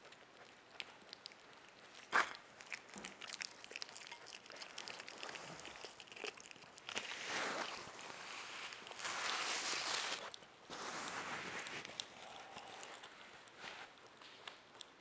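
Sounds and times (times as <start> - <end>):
animal chewing crunchy food: 0.0 - 15.0
rustling: 1.1 - 14.9.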